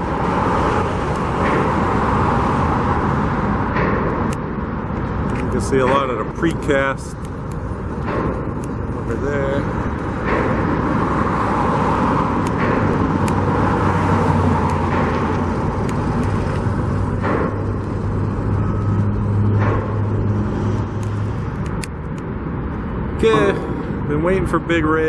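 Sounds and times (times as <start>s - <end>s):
low engine hum: 0.0s - 25.0s
traffic: 0.0s - 25.0s.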